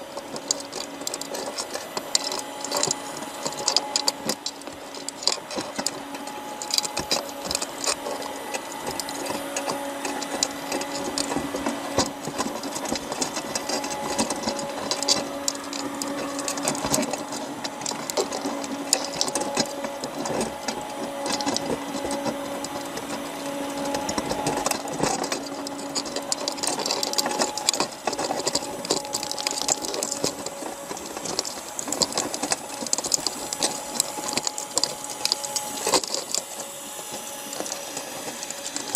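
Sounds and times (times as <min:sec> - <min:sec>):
crabs clicking and scraping: 0:00.0 - 0:38.9
steady low hum: 0:00.0 - 0:38.9.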